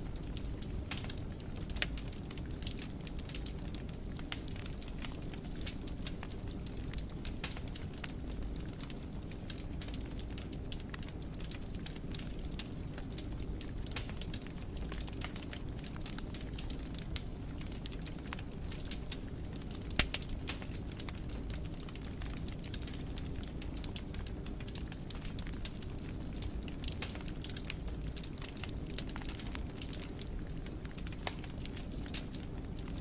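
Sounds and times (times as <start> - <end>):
fire crackling: 0.0 - 33.0.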